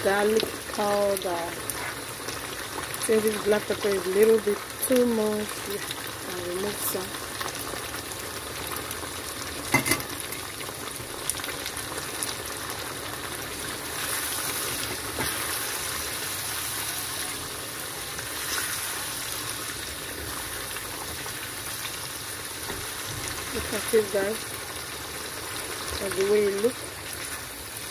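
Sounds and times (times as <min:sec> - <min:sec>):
sauce sizzling in a pan: 0:00.0 - 0:27.9.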